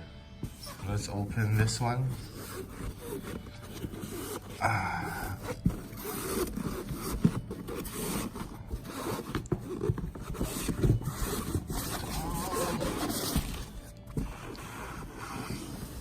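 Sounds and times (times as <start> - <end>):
packaging scraping and rustling: 0.5 - 16.0.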